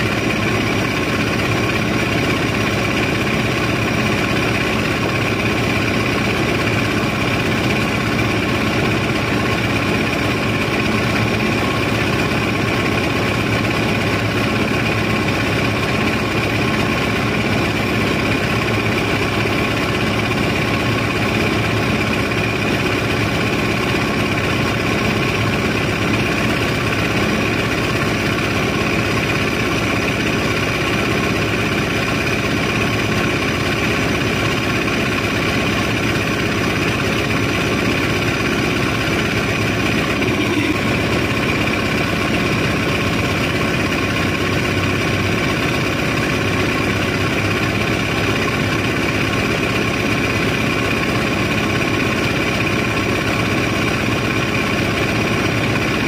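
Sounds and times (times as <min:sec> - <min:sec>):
machinery engine droning: 0:00.0 - 0:56.0.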